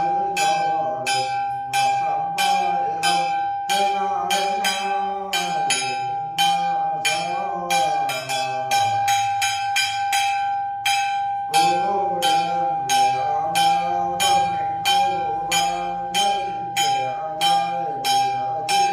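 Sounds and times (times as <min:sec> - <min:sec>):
man chanting: 0:00.0 - 0:10.2, 0:11.4 - 0:18.9.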